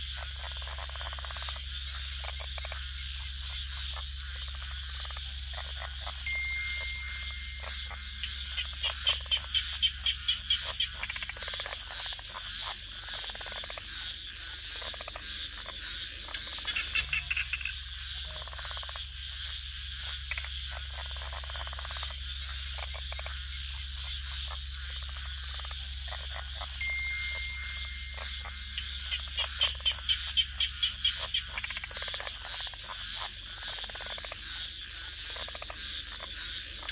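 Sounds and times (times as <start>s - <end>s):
frogs calling: 0.0s - 36.9s
high-pitched insect chorus: 0.0s - 36.9s.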